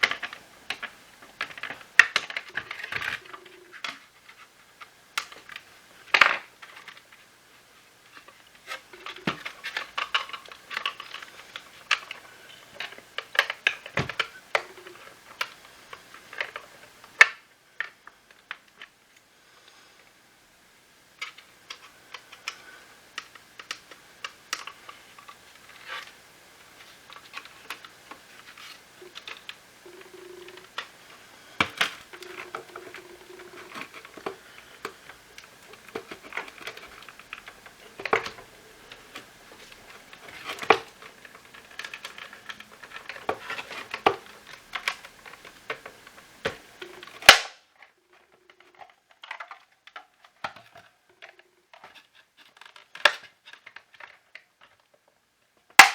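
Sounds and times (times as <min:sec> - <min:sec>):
plastic parts clicking and knocking: 0:00.0 - 0:07.2, 0:08.0 - 0:19.2, 0:21.2 - 0:55.9.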